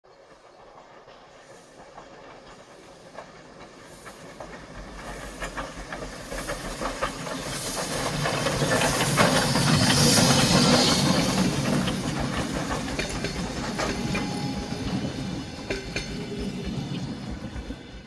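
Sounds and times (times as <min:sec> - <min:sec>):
steam locomotive exhaust beats: 0:00.2 - 0:18.0
steam hissing: 0:00.5 - 0:18.0.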